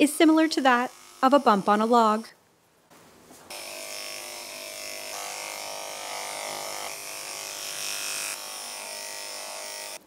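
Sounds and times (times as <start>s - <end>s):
electric clippers buzzing: 0.0s - 2.3s, 3.5s - 10.0s.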